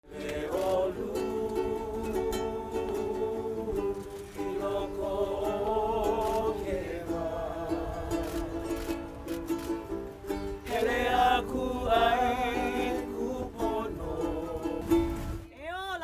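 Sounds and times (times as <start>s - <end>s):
ukulele music: 0.1s - 16.0s.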